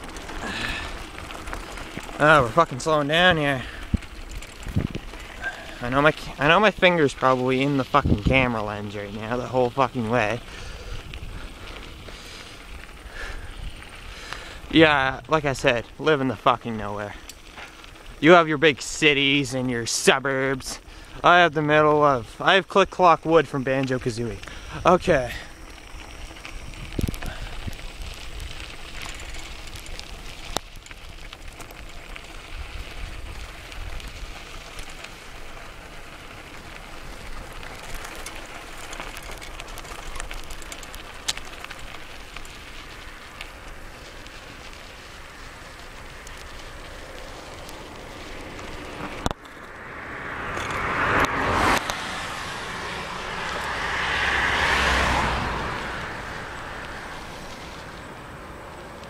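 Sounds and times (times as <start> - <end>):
vehicles passing: 0.0 - 59.0
wind rush and road noise: 0.0 - 59.0.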